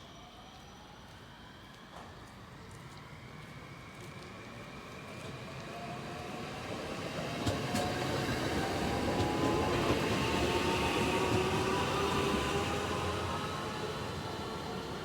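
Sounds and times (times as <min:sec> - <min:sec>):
train running past: 0:00.0 - 0:15.0.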